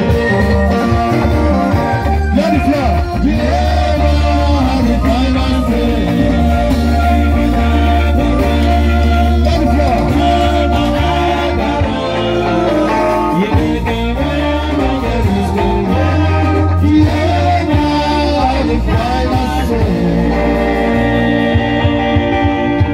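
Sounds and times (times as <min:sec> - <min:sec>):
bass line: 0:00.0 - 0:22.9
electric guitars: 0:00.0 - 0:22.9
men singing: 0:00.0 - 0:22.9.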